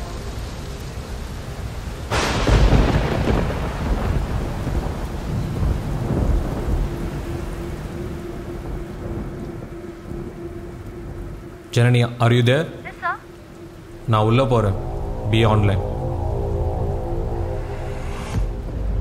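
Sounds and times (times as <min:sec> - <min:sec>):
steady rain: 0:00.0 - 0:19.0
thunder rumbling: 0:00.0 - 0:19.0.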